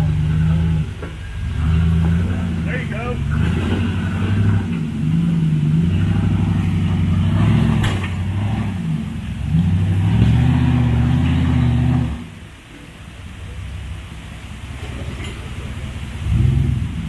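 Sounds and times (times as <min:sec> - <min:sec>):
off-road engine revving: 0:00.0 - 0:12.6, 0:13.2 - 0:17.0.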